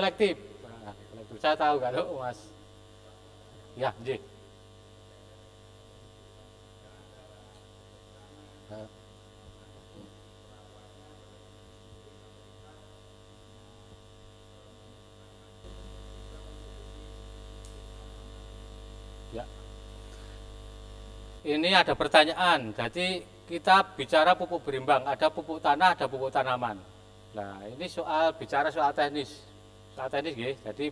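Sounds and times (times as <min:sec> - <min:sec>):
electrical mains hum: 0:00.0 - 0:30.9.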